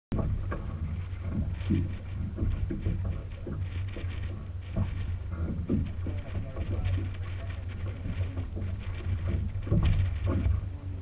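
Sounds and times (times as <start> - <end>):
steady low rumble: 0.1 - 11.0
water splashing against boat hull: 0.1 - 11.0.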